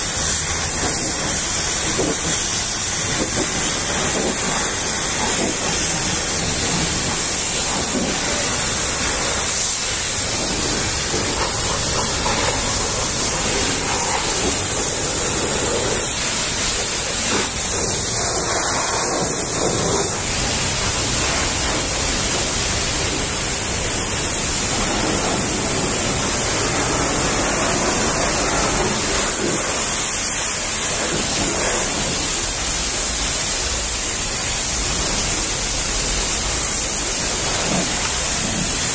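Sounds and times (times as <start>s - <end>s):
pressure washer spraying water: 0.0s - 38.9s.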